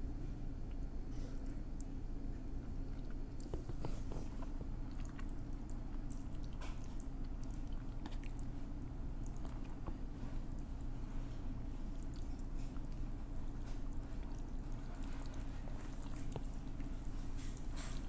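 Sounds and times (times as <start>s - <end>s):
steady low hum: 0.0s - 18.0s
wet chewing clicks and smacks: 0.6s - 18.0s.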